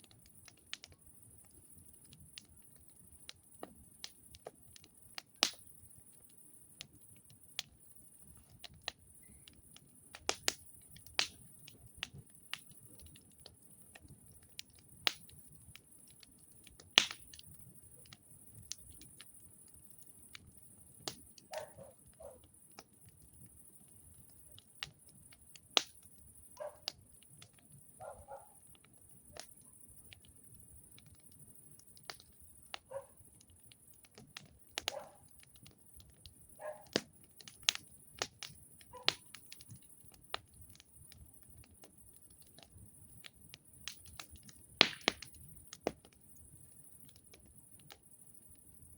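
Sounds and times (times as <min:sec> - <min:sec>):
campfire pops and snaps: 0:00.0 - 0:48.9.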